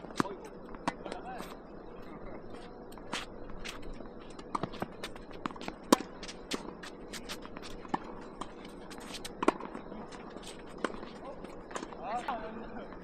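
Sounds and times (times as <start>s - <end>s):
footsteps on court: 0.0s - 13.0s.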